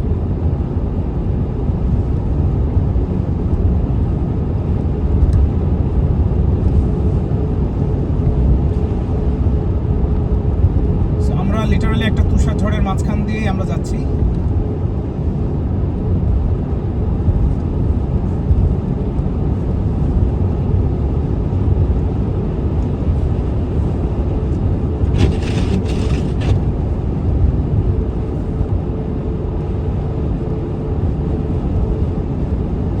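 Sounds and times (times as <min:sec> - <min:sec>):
car tyres and engine rumble: 0:00.1 - 0:33.0.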